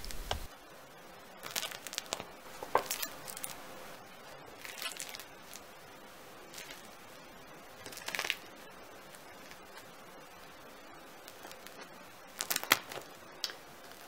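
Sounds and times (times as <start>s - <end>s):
bread crust crackling: 0.0s - 0.6s, 1.2s - 14.0s.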